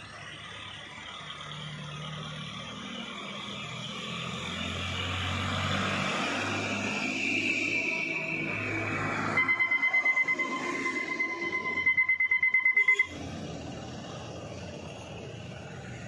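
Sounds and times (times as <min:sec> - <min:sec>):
diesel trucks driving past: 0:00.0 - 0:16.0.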